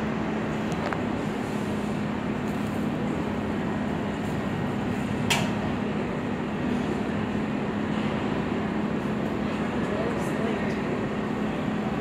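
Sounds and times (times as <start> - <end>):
train hum and rumble: 0.0 - 12.0.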